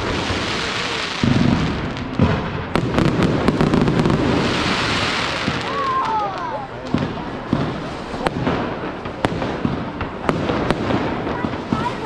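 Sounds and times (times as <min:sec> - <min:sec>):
fireworks bangs: 0:00.0 - 0:12.0
fireworks crackling: 0:00.0 - 0:12.0
fireworks rumble: 0:00.0 - 0:12.0.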